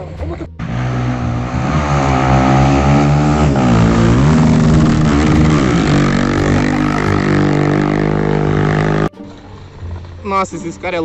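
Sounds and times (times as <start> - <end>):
motorcycle engine revving: 0.5 - 10.2.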